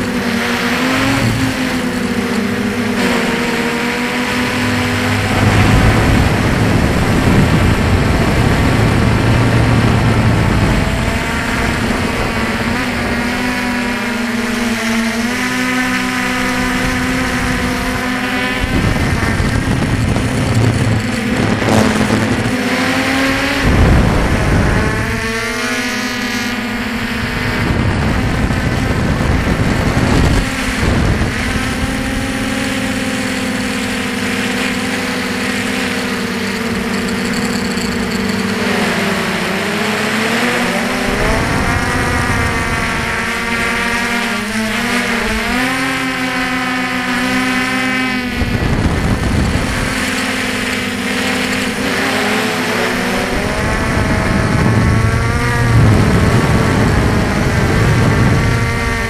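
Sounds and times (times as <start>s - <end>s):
quadcopter motors whining: 0.0s - 59.0s
wind on microphone: 0.0s - 59.0s.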